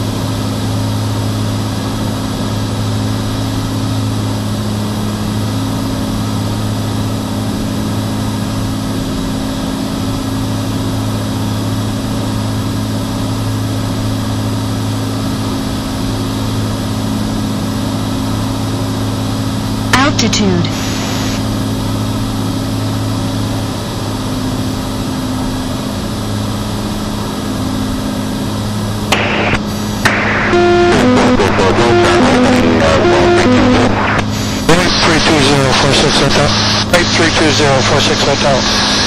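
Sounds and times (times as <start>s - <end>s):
airplane engine and propeller drone: 0.0s - 39.0s.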